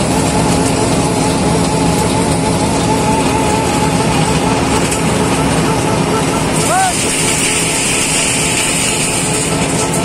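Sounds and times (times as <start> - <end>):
milling drum cutting road: 0.0 - 10.0
milling machine engine running: 0.0 - 10.0.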